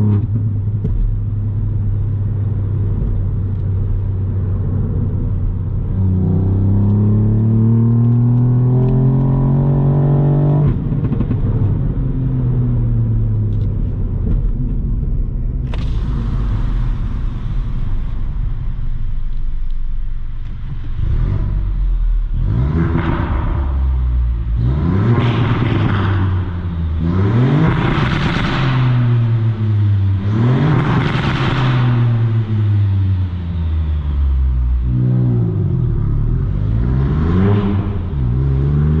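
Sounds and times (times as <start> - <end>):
car engine accelerating and revving: 0.0 - 15.1, 20.4 - 39.0.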